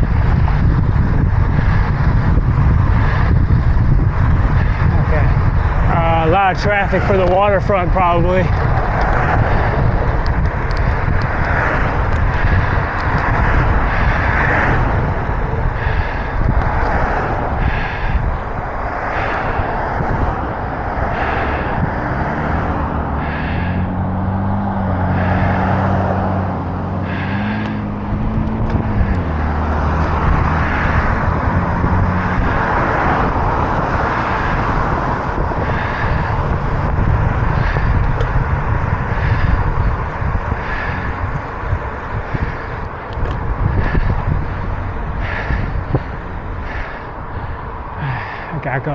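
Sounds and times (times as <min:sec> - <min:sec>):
passing vehicle engine hum: 0:00.0 - 0:48.9
road traffic: 0:00.0 - 0:48.9
wind rushing over microphone: 0:00.0 - 0:48.9.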